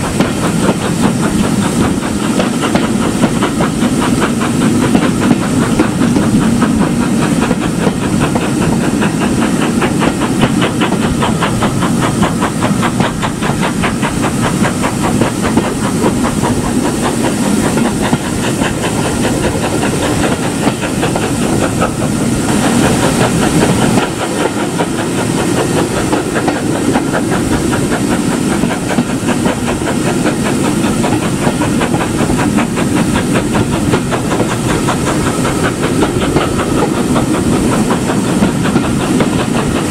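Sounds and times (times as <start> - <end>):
steam hissing: 0.0 - 39.9
steam locomotive beats: 0.0 - 39.9.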